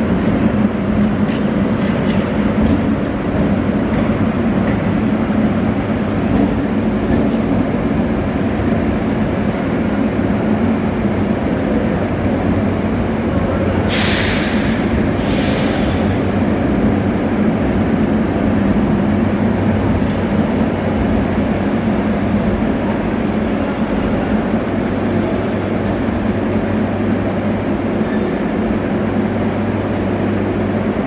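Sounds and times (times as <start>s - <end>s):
train rumbling slowly: 0.0s - 31.0s.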